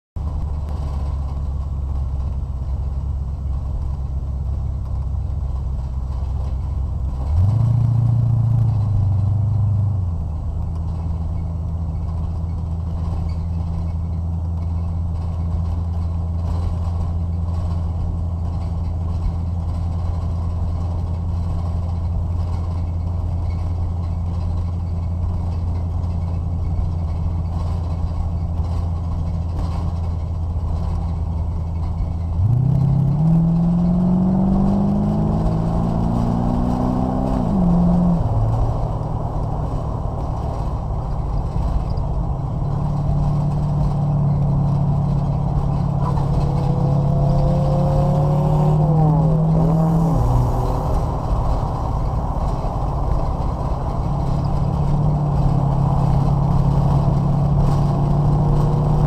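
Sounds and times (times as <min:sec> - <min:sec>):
race car engine from inside cabin: 0:00.2 - 0:59.0.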